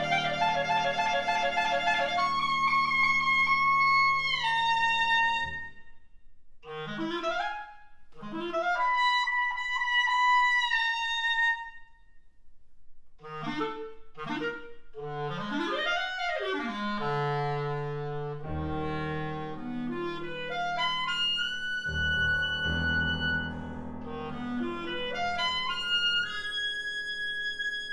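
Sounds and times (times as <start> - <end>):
clarinet solo: 0.0 - 6.0, 6.6 - 11.8, 13.2 - 27.9.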